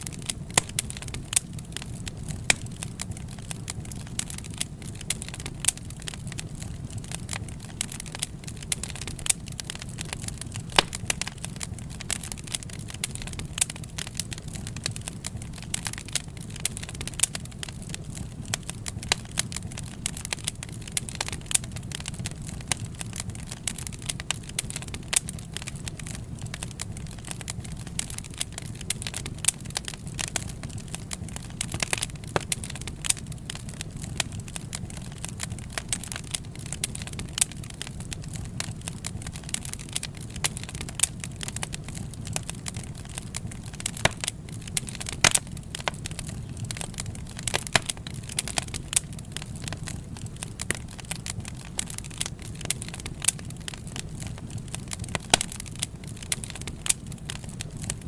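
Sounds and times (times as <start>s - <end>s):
low rumble of burning logs: 0.0s - 58.0s
wood fire crackling: 0.0s - 58.0s.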